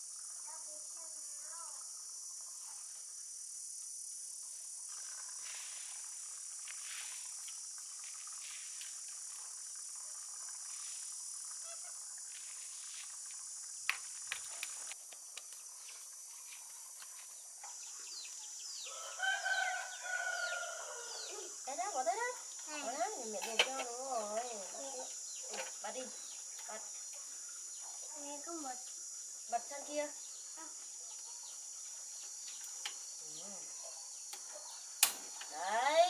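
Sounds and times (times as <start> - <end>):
high-pitched insect chorus: 0.0 - 36.0.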